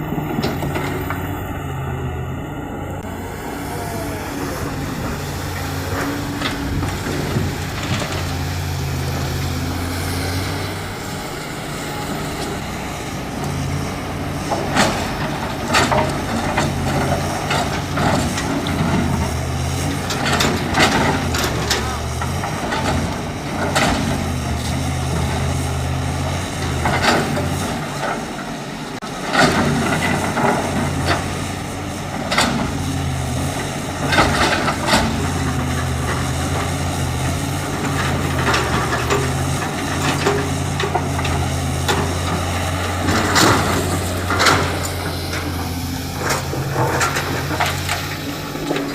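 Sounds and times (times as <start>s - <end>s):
diesel engine humming: 0.0s - 48.9s.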